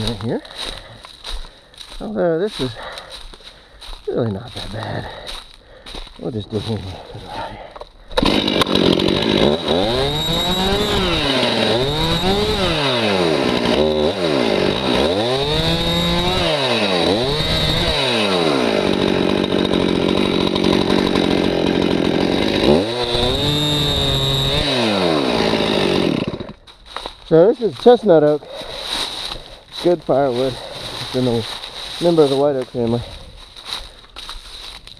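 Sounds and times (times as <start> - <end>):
chainsaw cutting log: 0.0 - 1.2, 1.8 - 34.9.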